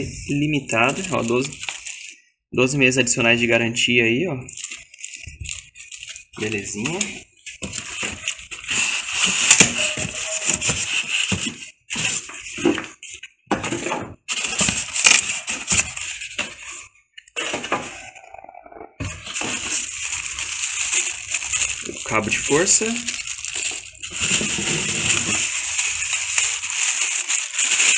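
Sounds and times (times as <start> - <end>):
styrofoam and cardboard handled: 0.0 - 2.2, 4.5 - 18.2, 19.0 - 27.9
plastic wrapping crinkling: 0.0 - 2.3, 4.5 - 13.4, 14.2 - 18.2, 19.0 - 27.9.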